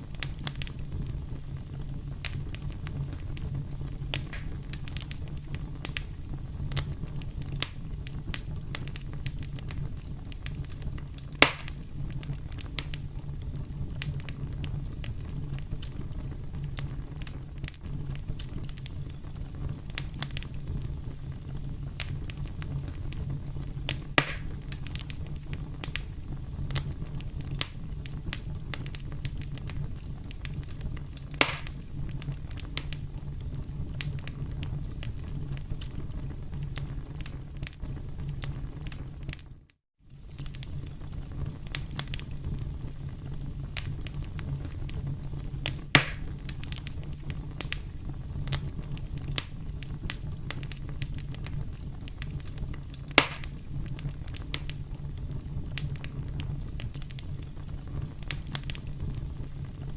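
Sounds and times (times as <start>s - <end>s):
campfire crackling: 0.0s - 39.5s, 40.1s - 59.9s
loud fire pops: 0.0s - 59.9s.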